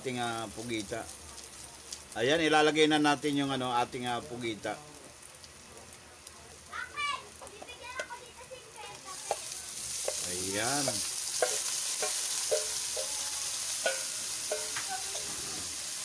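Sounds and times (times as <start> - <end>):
octopus sizzling in hot oil: 0.0 - 16.0.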